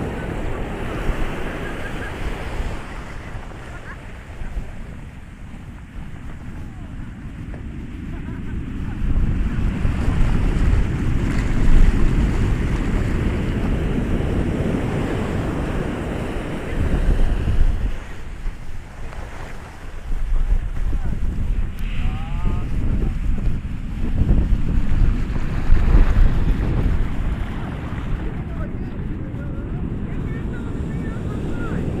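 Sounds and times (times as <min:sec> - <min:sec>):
ocean wave breaking: 0:00.0 - 0:32.0
wind rumbling on microphone: 0:00.0 - 0:32.0.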